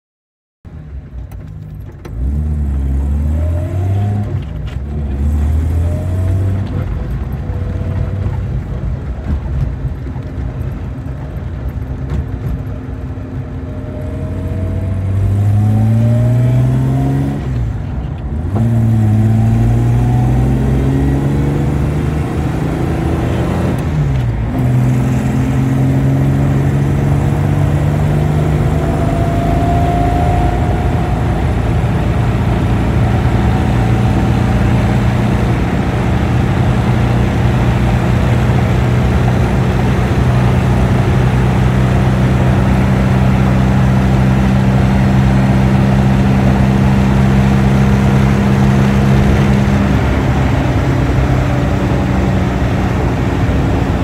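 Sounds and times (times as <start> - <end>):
road noise: 0.6 - 54.0
car engine accelerating: 0.7 - 54.0.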